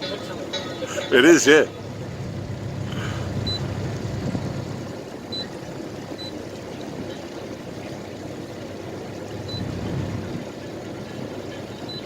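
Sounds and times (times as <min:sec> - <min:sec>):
outboard motors running: 0:00.0 - 0:12.0
water rushing along hull: 0:00.0 - 0:12.0.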